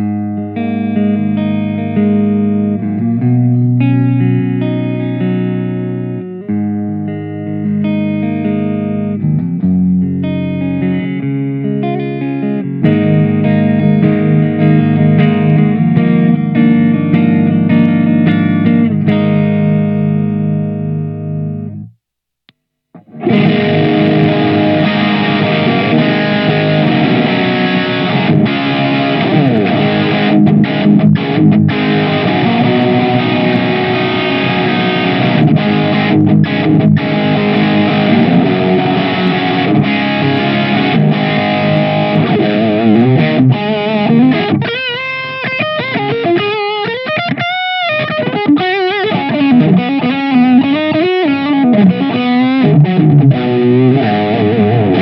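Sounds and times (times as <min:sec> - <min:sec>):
distorted electric guitar: 0:00.0 - 0:22.0, 0:23.0 - 0:55.0.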